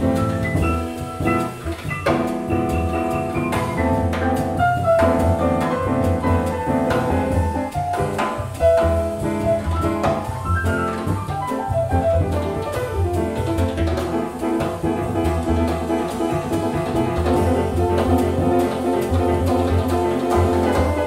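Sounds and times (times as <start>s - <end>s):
drum kit with cymbals: 0.0s - 21.0s
jazz piano chords: 0.0s - 21.0s
walking double bass: 0.0s - 21.0s.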